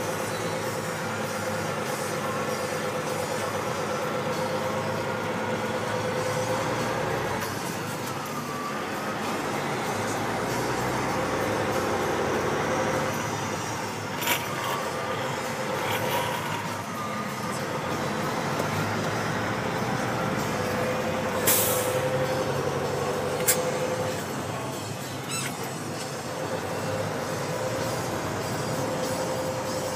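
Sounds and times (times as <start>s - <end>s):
truck engine drone: 0.0s - 29.9s.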